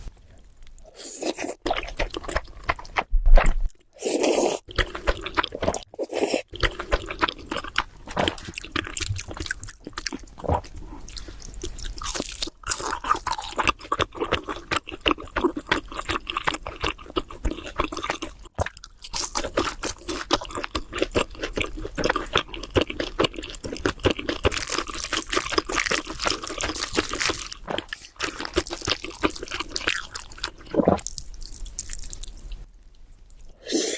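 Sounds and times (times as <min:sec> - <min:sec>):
wet chewing and crunching: 0:00.5 - 0:33.5.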